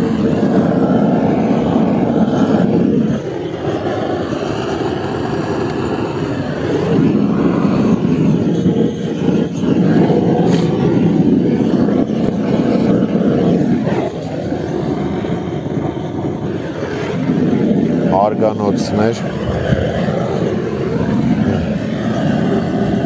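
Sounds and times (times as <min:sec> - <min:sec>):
blowtorch roaring: 0:00.0 - 0:23.0.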